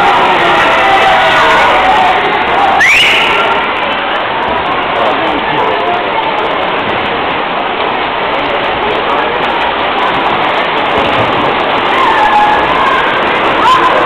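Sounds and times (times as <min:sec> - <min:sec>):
crowd cheering: 0:00.0 - 0:07.0, 0:09.4 - 0:14.0.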